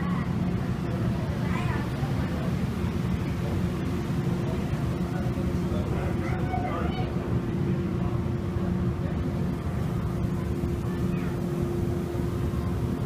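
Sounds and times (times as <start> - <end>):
faint voices: 0.0 - 13.0
ferry engine rumble: 0.0 - 13.0.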